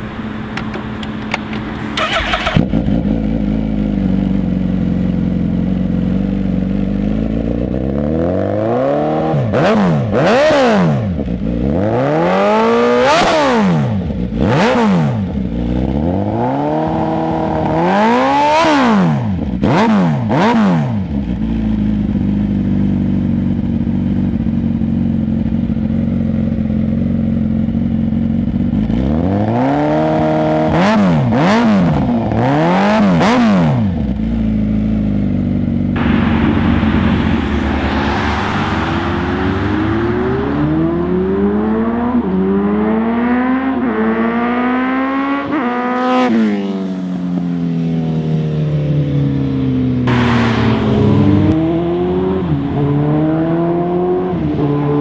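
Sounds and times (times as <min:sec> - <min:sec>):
motorcycle engine revving: 0:00.4 - 0:48.3, 0:49.1 - 0:55.0.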